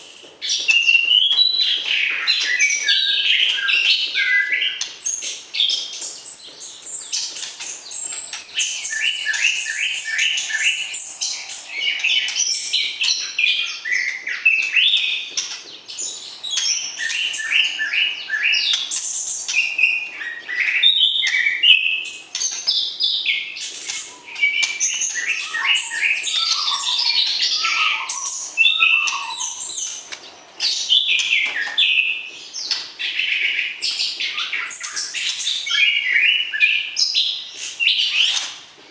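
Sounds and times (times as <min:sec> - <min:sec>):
songbird singing: 0:00.0 - 0:38.6.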